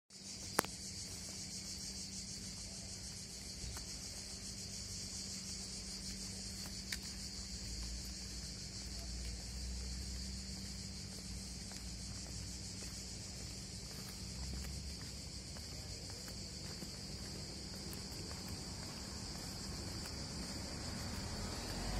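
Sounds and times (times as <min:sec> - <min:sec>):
cicadas buzzing: 0:00.1 - 0:21.9.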